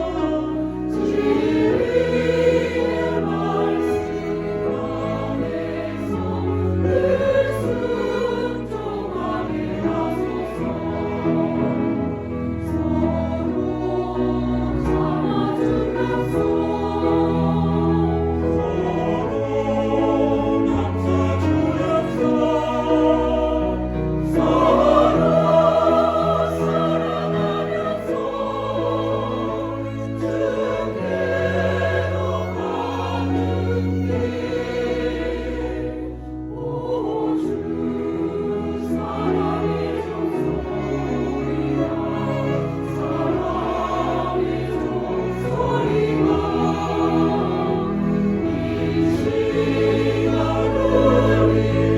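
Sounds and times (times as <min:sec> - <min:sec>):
choir singing: 0:00.0 - 0:51.9.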